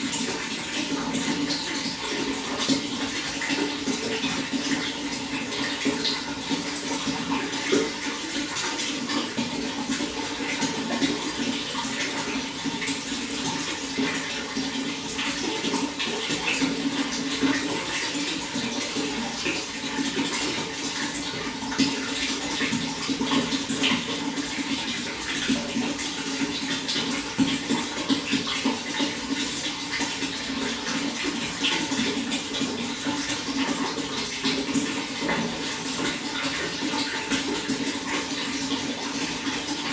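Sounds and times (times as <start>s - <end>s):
running water splashing: 0.0s - 39.9s
water drips: 0.0s - 39.9s.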